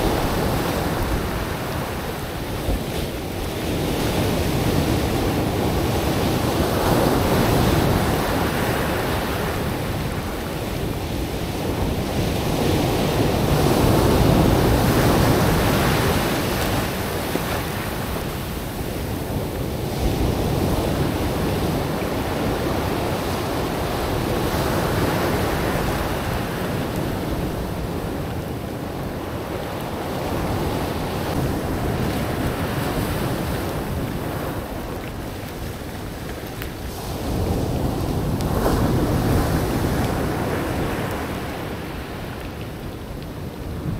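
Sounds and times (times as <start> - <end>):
ocean waves breaking on a beach: 0.0 - 43.9.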